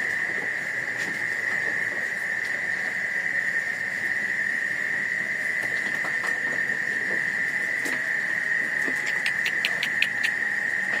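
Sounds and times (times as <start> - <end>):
night insects droning: 0.0 - 11.0.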